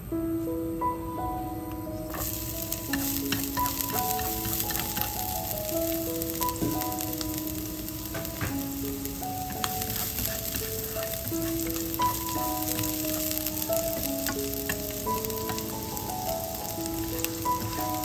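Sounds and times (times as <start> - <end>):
soft background music: 0.0 - 18.0
shallots sizzling in oil: 1.8 - 18.0
chopsticks clicking on pan: 2.1 - 18.0.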